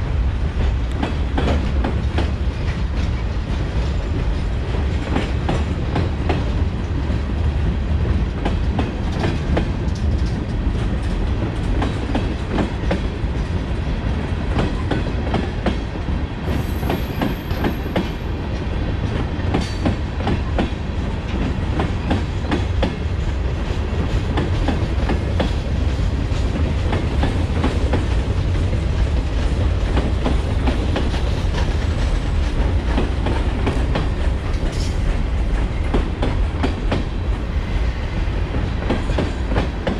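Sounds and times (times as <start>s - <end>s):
train rumble: 0.0s - 39.9s
wheels clickety-clack over rail joints: 0.0s - 39.9s.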